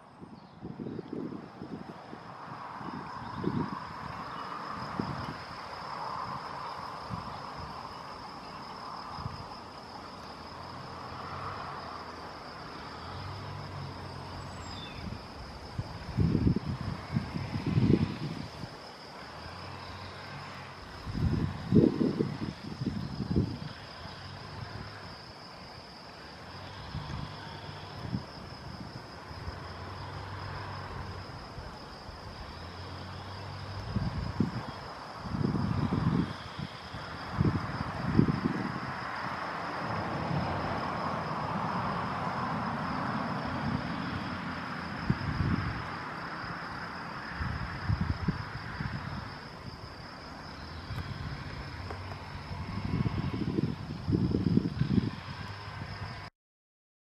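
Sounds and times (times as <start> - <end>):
distant traffic hum: 0.0 - 56.3
wind rumble on microphone: 0.0 - 56.3.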